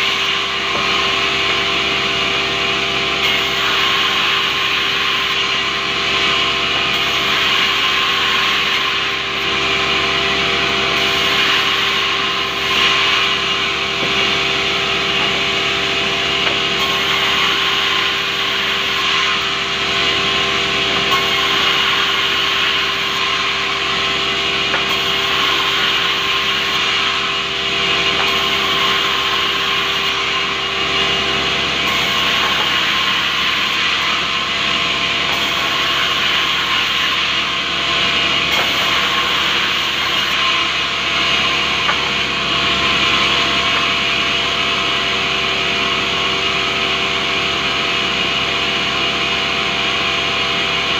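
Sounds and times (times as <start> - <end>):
band saw cutting wood: 0.0 - 50.9.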